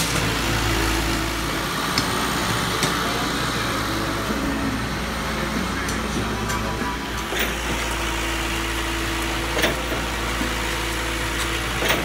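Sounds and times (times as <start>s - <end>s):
truck engine low rumble: 0.0s - 12.0s.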